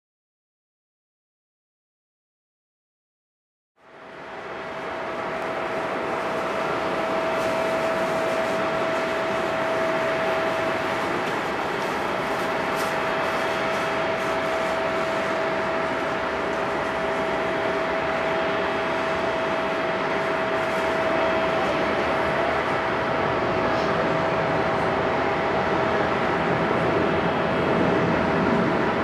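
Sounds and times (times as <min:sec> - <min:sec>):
jet engines running: 0:03.8 - 0:29.0.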